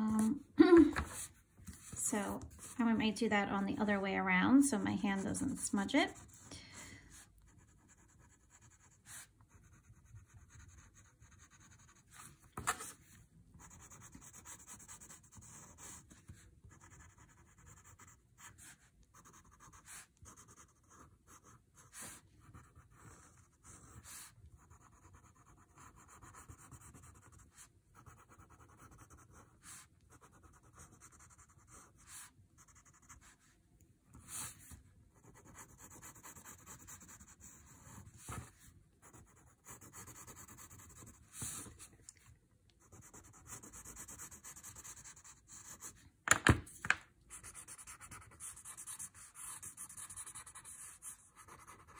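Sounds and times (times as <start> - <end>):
pencil scratching on paper: 4.8 - 6.5, 7.1 - 41.9, 42.8 - 46.0, 47.3 - 51.9.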